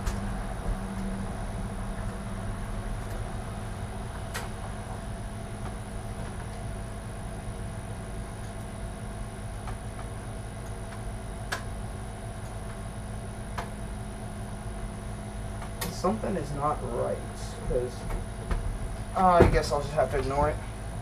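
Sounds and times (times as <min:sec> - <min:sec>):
low hum with high whine: 0:00.0 - 0:21.0.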